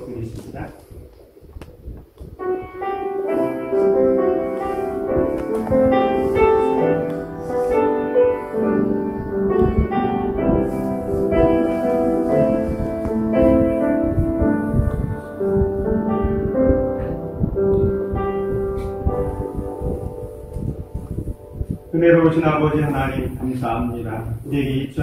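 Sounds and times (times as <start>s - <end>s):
slow piano music: 2.0s - 25.0s.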